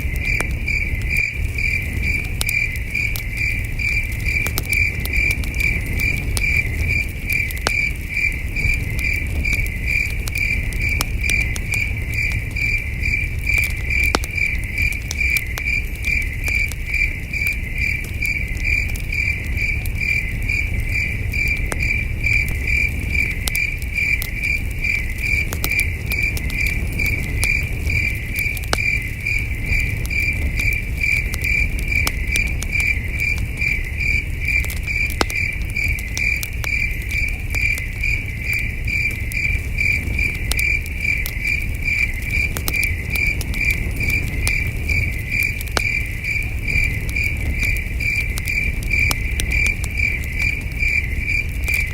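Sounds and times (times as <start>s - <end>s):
campfire crackling and popping: 0.0s - 51.9s
crickets chirping: 0.0s - 51.9s.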